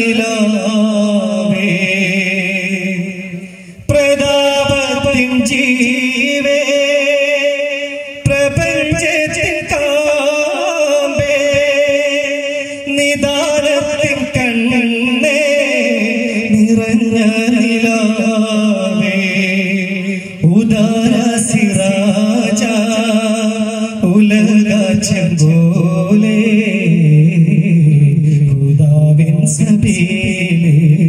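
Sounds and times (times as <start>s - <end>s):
boys singing in unison: 0.0s - 28.0s.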